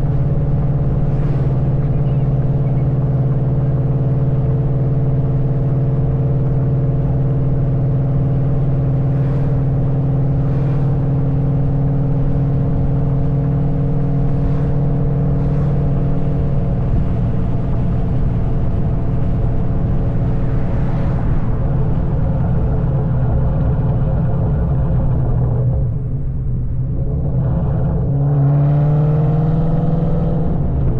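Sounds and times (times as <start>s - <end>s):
car engine droning: 0.0s - 30.9s.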